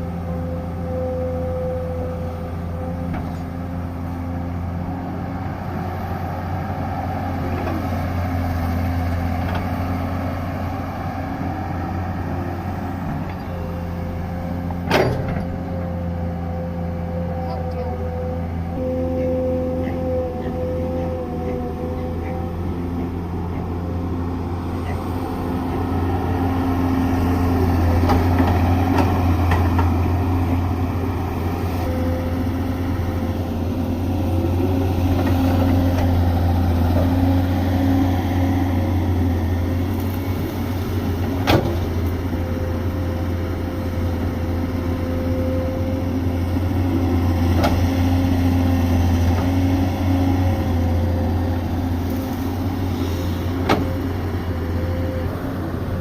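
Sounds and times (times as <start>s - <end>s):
engine whine: 0.0s - 56.0s
excavator diesel engine running: 0.0s - 56.0s.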